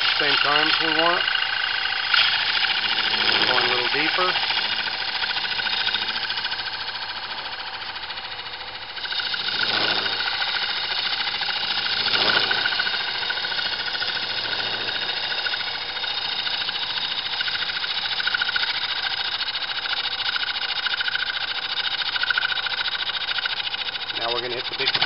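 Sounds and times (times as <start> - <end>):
wood lathe turning wood: 0.0 - 25.0.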